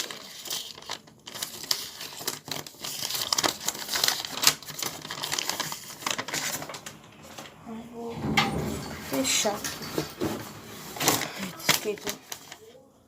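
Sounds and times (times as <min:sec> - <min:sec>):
paper rustling and crinkling: 0:00.0 - 0:07.6, 0:08.2 - 0:12.8.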